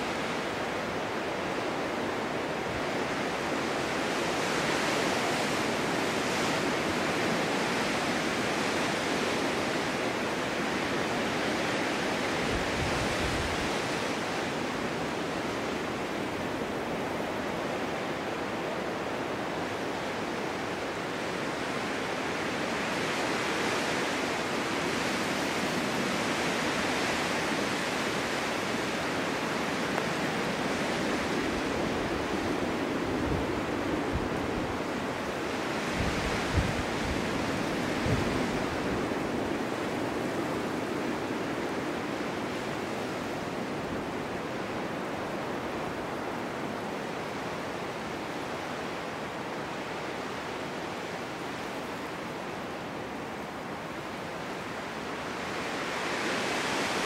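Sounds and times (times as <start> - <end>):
wind blowing in gusts: 0.0 - 57.0.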